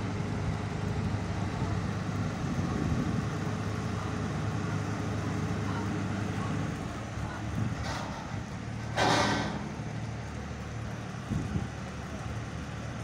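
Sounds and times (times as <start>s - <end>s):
boat diesel engine idling: 0.0s - 13.0s.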